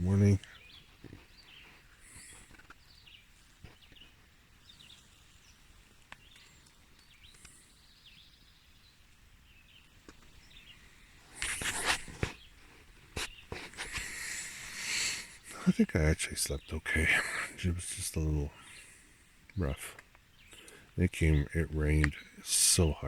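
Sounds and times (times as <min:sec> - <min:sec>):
distant birds chirping: 0:00.0 - 0:23.0.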